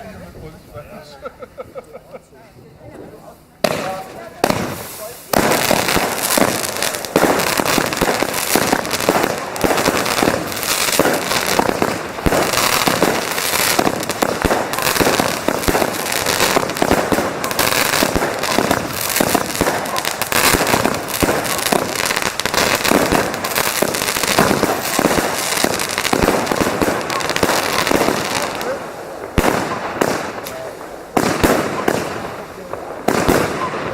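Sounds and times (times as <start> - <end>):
fireworks bangs and crackles: 2.9 - 33.9.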